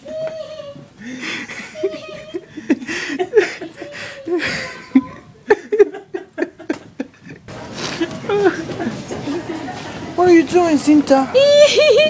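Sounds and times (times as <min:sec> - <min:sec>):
people laughing: 0:01.0 - 0:10.2, 0:11.3 - 0:12.0.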